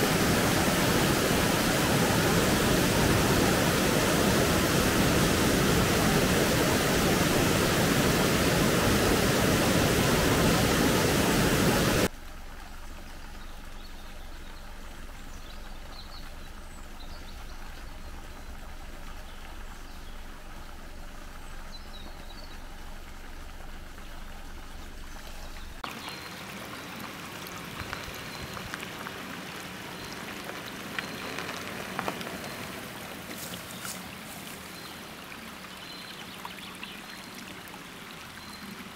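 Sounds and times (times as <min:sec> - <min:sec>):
running water: 0:00.0 - 0:38.9
water trickling: 0:00.0 - 0:38.9.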